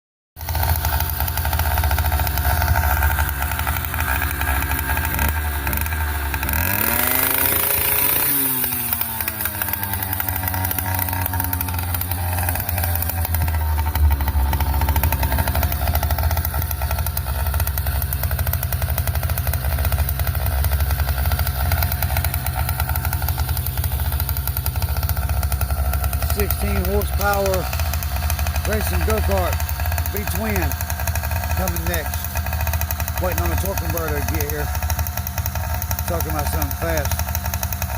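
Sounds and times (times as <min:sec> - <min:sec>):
bicycle engine revving: 0:00.4 - 0:37.9.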